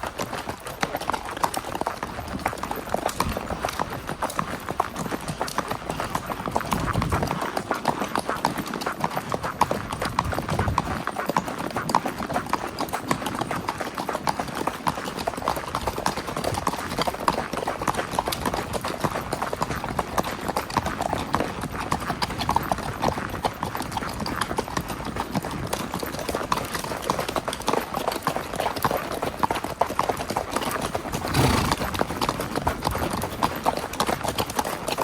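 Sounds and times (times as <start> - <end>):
horse hooves clip-clopping: 0.0 - 35.0.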